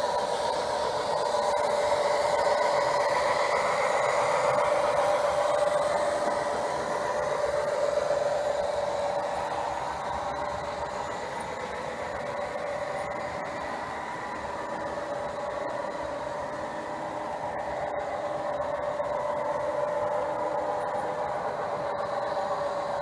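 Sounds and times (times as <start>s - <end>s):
wheels rattling on rails: 0.0s - 23.0s.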